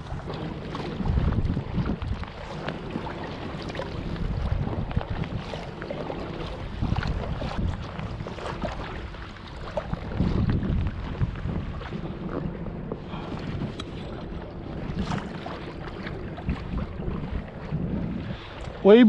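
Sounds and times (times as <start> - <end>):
paddle water splashes: 0.0 - 19.0
wind on microphone: 0.0 - 19.0.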